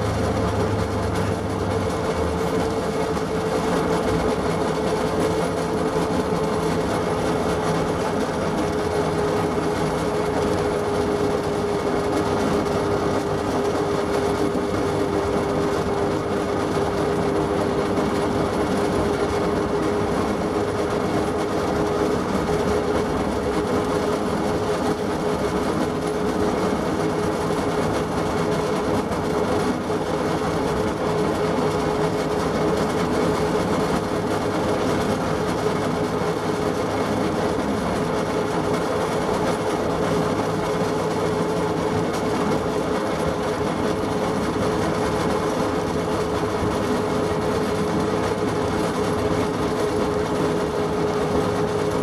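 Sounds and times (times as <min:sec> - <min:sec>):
train running with whine: 0:00.0 - 0:52.0
wheel and rail noise: 0:00.0 - 0:52.0.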